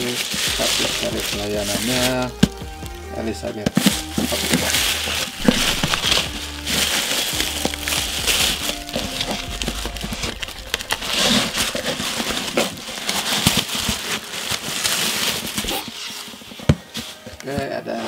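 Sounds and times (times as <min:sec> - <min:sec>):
plastic bag crinkling and tearing: 0:00.0 - 0:17.7
background music: 0:00.0 - 0:18.0.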